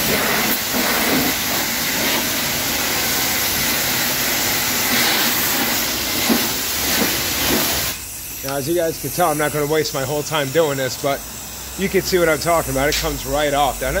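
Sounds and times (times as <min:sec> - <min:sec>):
water spray hissing on car: 0:00.0 - 0:14.0.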